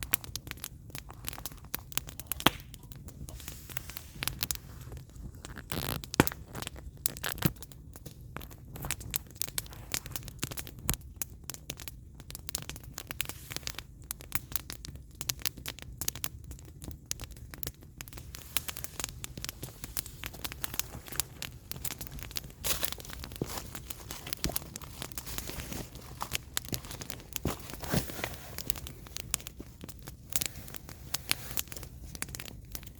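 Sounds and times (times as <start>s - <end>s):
fire crackling and popping: 0.0s - 32.9s
low rumble of fire: 0.0s - 32.9s.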